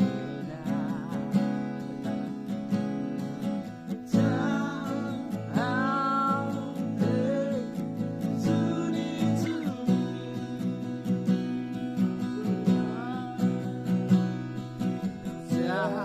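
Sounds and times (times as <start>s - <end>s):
person singing: 0.0s - 2.0s, 3.9s - 16.0s
acoustic guitar strumming: 0.0s - 16.0s.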